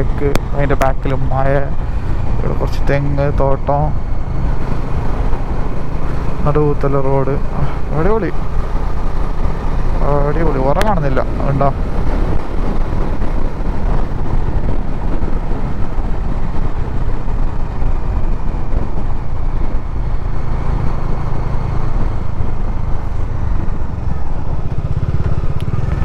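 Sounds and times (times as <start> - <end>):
wind noise on microphone: 0.0 - 6.8, 7.4 - 26.0
motorcycle engine running: 0.0 - 26.0.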